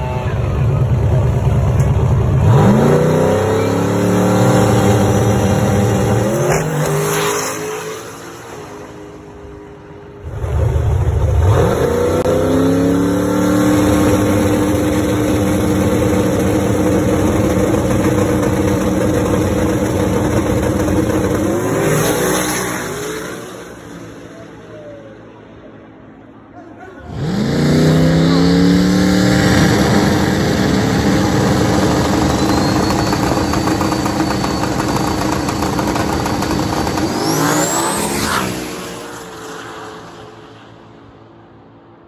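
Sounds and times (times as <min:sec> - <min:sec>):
drag car engine accelerating: 0:00.0 - 0:24.8, 0:27.0 - 0:41.8.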